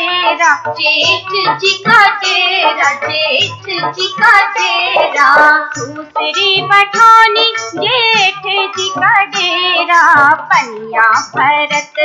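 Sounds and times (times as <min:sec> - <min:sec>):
drum beat: 0:00.0 - 0:12.0
high-pitched person singing: 0:00.0 - 0:12.0.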